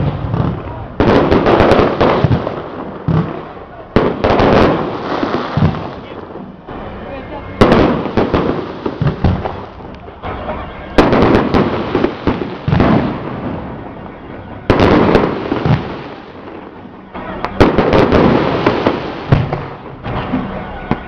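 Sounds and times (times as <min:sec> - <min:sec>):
firecrackers crackling: 0:00.0 - 0:21.0.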